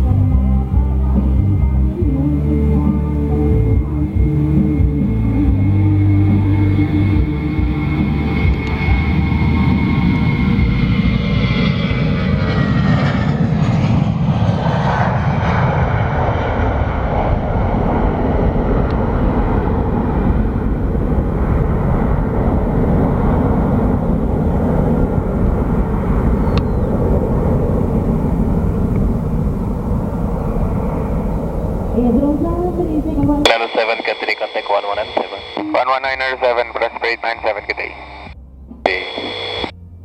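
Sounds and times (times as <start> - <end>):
high engine whine: 0.0 - 40.0
jet engines rumbling: 3.3 - 39.7.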